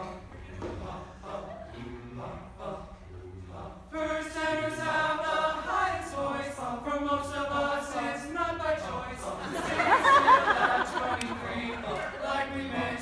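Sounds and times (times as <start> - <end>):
male choir singing harmony: 0.0 - 13.0.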